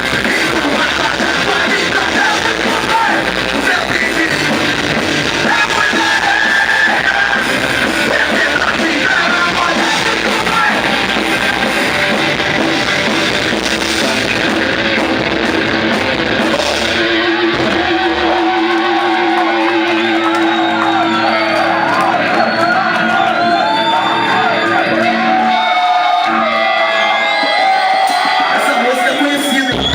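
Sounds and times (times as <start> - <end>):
live rock band playing: 0.0 - 29.9
shouted singing: 0.0 - 29.9.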